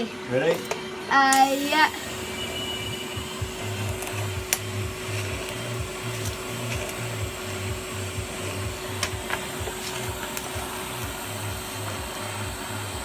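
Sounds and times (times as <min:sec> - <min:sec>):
welding arc hissing: 0:00.0 - 0:13.0
music with low beat: 0:01.9 - 0:13.0.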